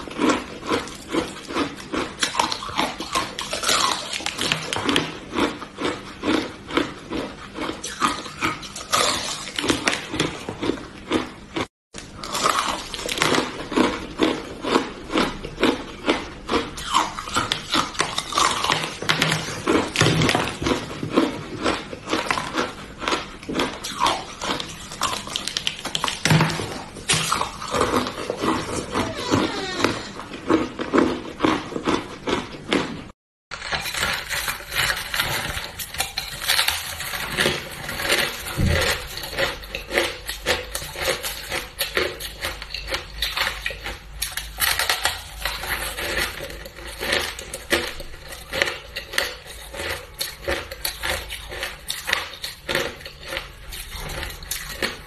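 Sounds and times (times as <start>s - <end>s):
ice being chewed and crunched: 0.0s - 55.0s.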